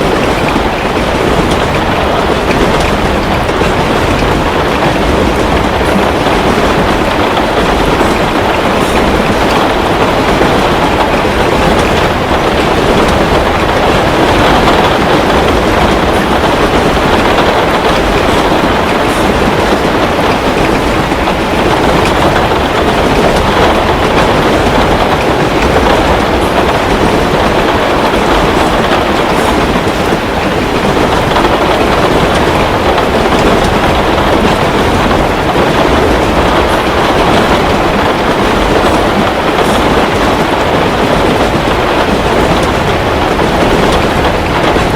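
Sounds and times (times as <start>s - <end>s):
heavy rain: 0.0s - 44.9s.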